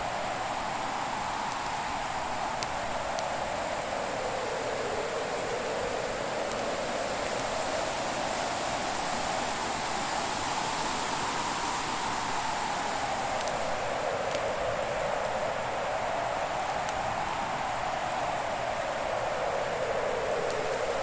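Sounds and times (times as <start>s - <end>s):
faint fire crackle: 0.0s - 21.0s.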